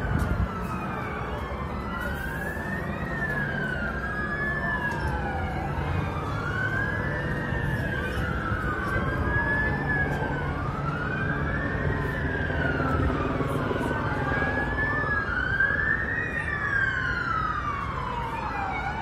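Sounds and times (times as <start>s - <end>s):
police sirens wailing: 0.0s - 19.0s.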